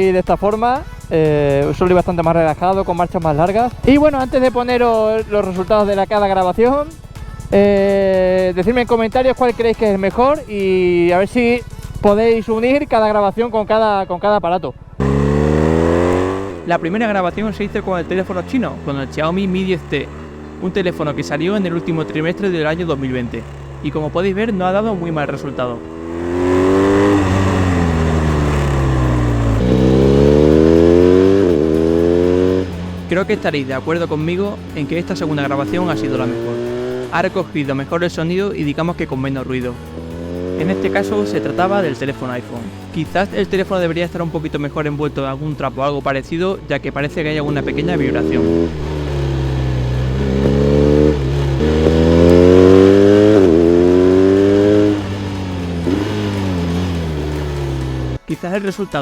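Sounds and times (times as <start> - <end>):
motorcycle engine revving: 0.0 - 14.1, 14.7 - 58.3.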